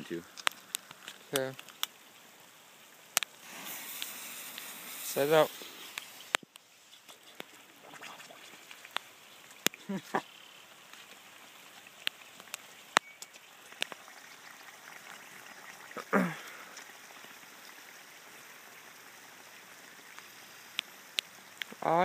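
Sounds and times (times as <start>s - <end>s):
light rain hiss: 0.0s - 22.0s.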